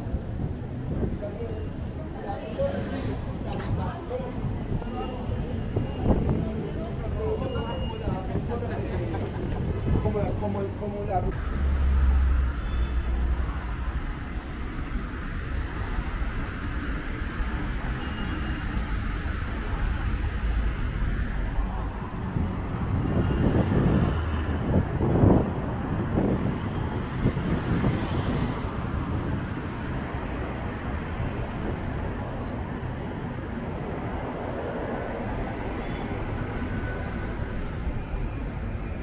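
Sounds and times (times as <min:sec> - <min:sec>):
city street traffic: 0:00.0 - 0:39.0.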